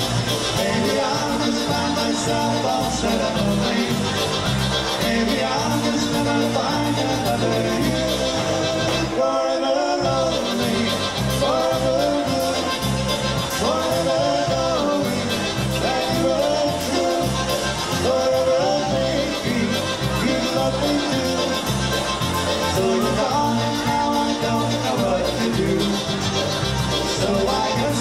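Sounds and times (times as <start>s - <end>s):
polka band playing: 0.0s - 28.0s.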